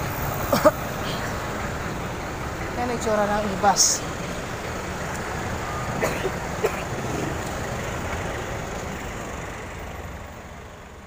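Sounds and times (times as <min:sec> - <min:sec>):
bus engine rumble: 0:00.0 - 0:11.0
traffic passing close by: 0:00.0 - 0:11.0.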